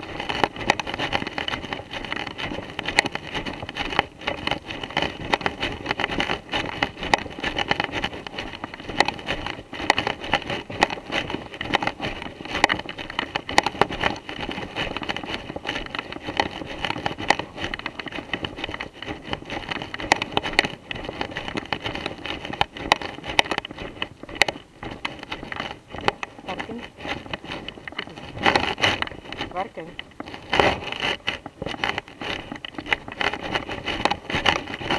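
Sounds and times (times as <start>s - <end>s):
footsteps through dry leaves: 0.0s - 34.9s.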